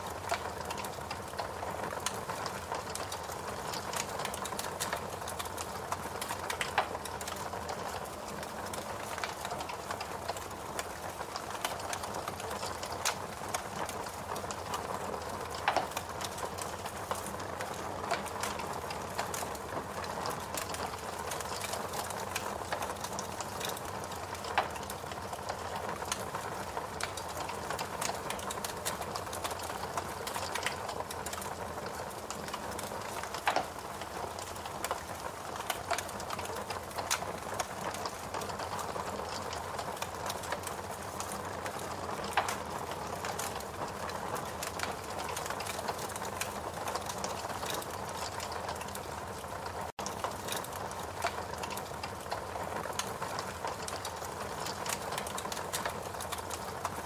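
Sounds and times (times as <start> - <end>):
fire crackling and hissing: 0.0 - 57.0
fire popping: 0.0 - 57.0.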